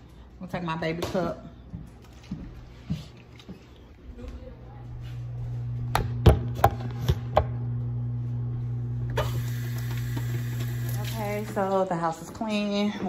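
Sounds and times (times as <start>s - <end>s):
steady low hum: 1.4s - 12.2s.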